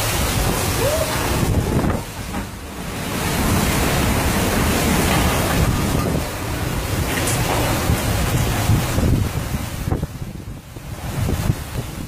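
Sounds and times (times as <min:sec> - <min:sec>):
heavy rain downpour: 0:00.0 - 0:12.0
wind gusts buffeting microphone: 0:00.0 - 0:12.0.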